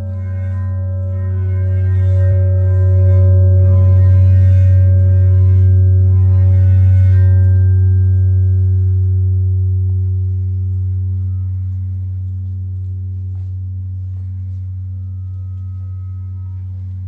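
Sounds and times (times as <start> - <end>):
low humming tone: 0.0 - 17.0.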